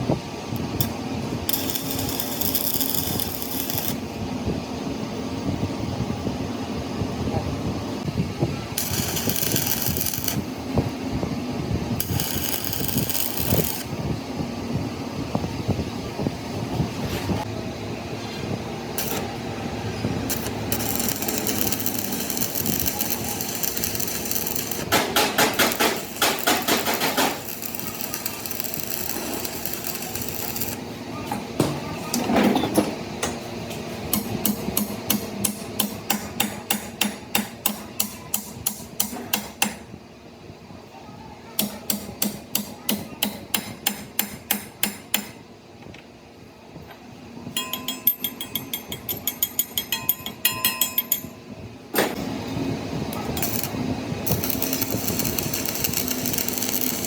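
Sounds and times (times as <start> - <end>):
workshop clatter: 0.0 - 4.2, 8.2 - 40.0, 41.5 - 46.2, 46.8 - 57.0.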